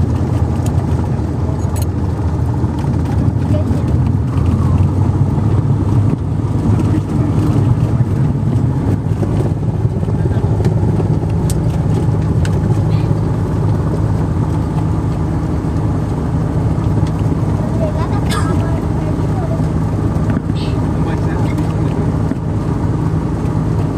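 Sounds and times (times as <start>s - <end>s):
jet engine cabin rumble: 0.0s - 23.9s.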